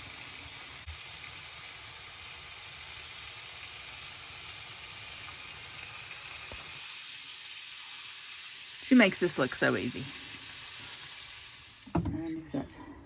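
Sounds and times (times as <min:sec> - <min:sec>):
chicken sizzling in a pan: 0:00.0 - 0:11.9.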